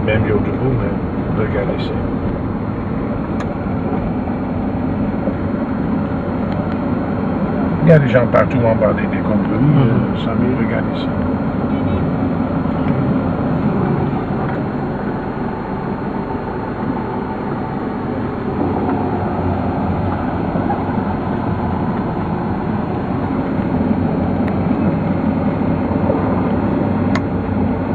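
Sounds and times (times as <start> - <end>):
vehicle engine and road rumble: 0.0 - 27.9.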